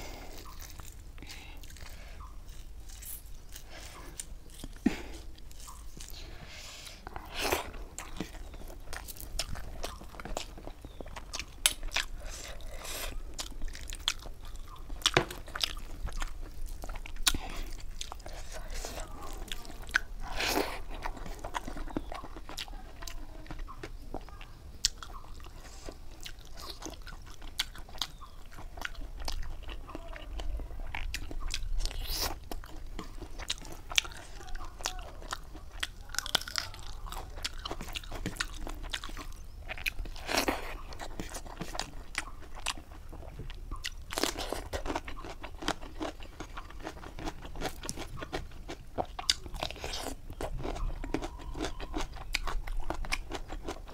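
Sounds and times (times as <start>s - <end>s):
chewing with mouth clicks: 0.0s - 53.9s
crunchy bites: 0.0s - 53.9s.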